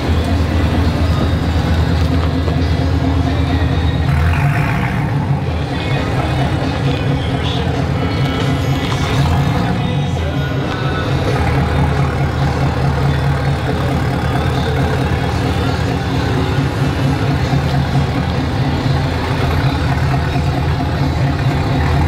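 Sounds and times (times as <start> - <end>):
pickup truck idling: 0.0 - 22.0.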